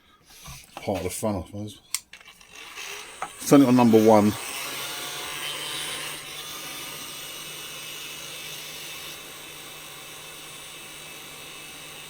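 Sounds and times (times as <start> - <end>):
heat gun fan hissing: 2.0 - 12.0.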